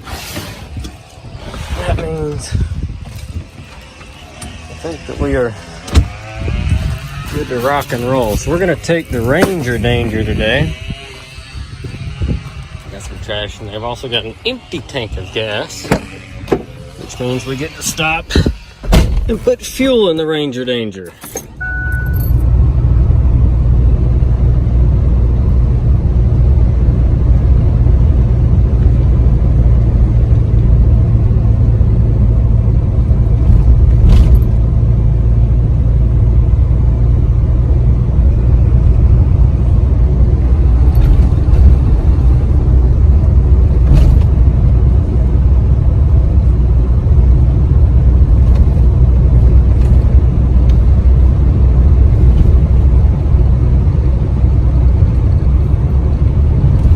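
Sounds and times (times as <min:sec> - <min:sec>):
truck engine and road noise: 0:00.0 - 0:56.9.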